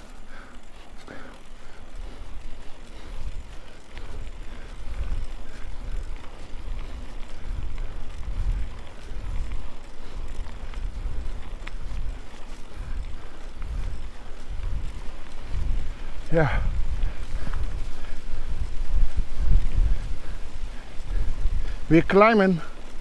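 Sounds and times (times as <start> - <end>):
faint bike clicks: 0.0 - 23.0
wind buffeting microphone: 0.0 - 23.0.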